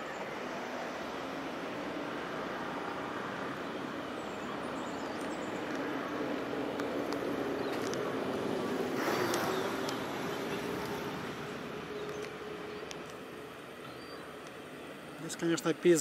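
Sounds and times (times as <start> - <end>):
passing vehicle engine drone: 0.0 - 15.9
steady rushing noise: 0.0 - 16.0.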